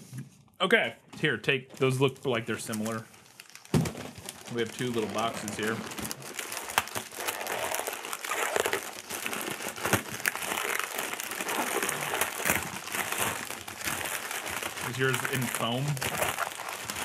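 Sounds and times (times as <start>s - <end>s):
wrapping paper crinkling: 1.8s - 17.0s.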